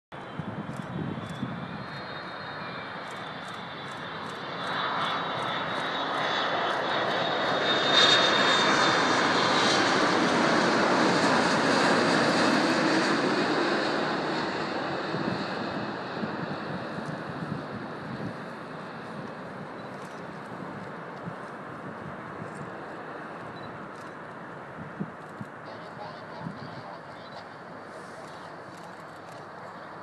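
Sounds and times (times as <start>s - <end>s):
jet engines rushing and whining: 0.2s - 30.0s.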